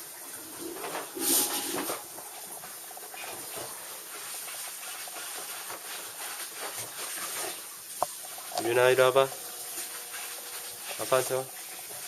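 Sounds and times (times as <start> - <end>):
faint rustles and ticks: 0.8 - 12.0.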